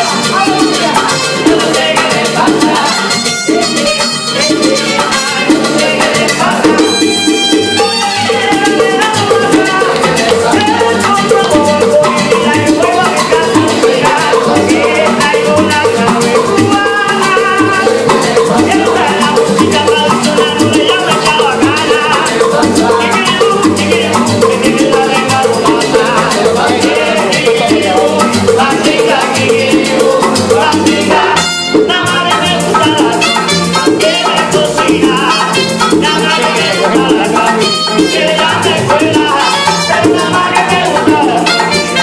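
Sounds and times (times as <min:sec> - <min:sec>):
acoustic guitars: 0:00.0 - 0:42.0
bongos: 0:00.0 - 0:42.0
maracas: 0:00.0 - 0:42.0
upright bass: 0:00.0 - 0:42.0.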